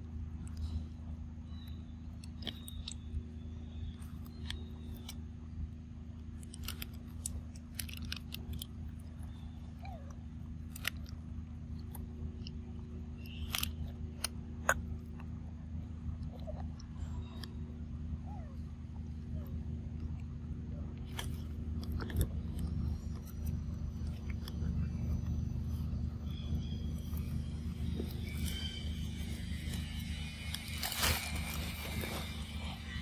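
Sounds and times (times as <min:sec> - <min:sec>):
steady low hum: 0:00.0 - 0:33.0
monkeys biting and chewing fruit: 0:00.3 - 0:33.0.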